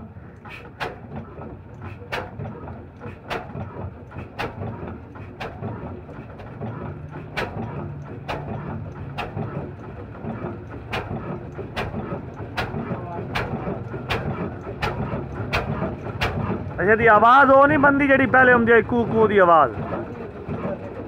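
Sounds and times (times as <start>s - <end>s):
stationary diesel engine chugging: 0.0s - 21.0s.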